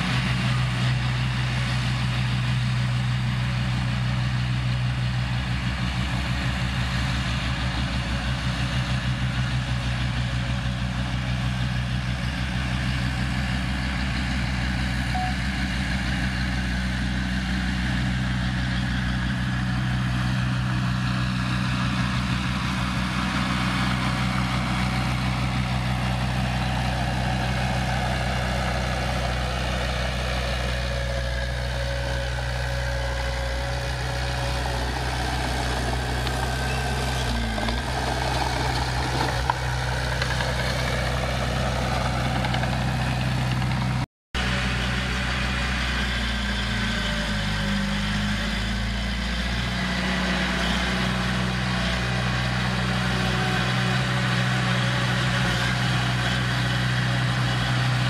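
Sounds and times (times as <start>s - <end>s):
bulldozer blade pushing dirt: 0.0s - 58.0s
bulldozer diesel engine running: 0.0s - 58.0s.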